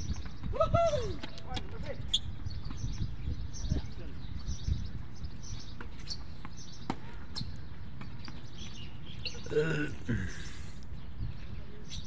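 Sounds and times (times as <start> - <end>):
birds chirping faintly: 1.3 - 12.0.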